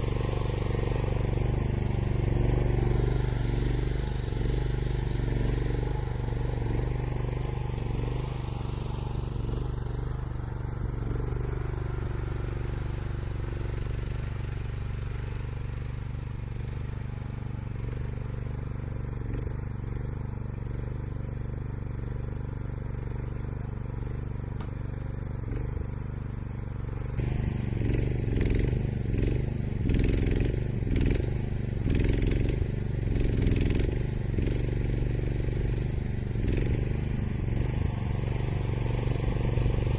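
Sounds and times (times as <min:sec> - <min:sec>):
skid steer loader engine running: 0:00.0 - 0:39.9.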